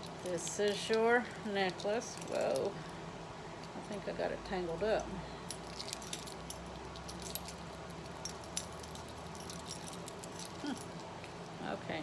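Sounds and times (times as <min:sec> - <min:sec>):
metal chain links clinking: 0:00.0 - 0:02.9, 0:04.8 - 0:11.6.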